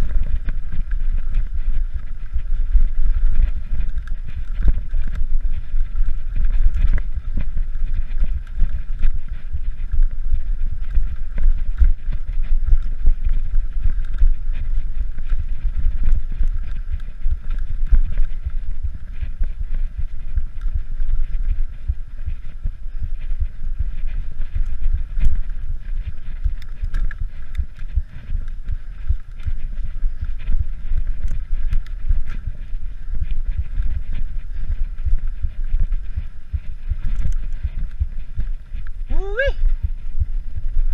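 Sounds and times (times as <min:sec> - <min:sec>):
bike clicks and rattles: 0:00.0 - 0:40.3
bike tyres rumbling on rock: 0:00.0 - 0:40.9
wind on microphone: 0:00.0 - 0:40.9.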